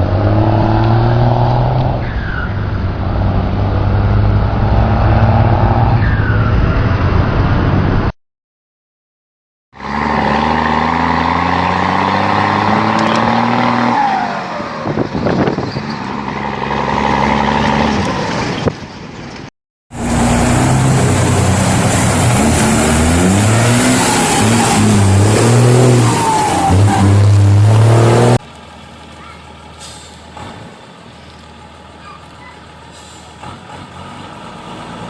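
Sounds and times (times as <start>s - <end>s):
diesel truck engine shifting gears: 0.0s - 8.1s, 9.8s - 35.0s.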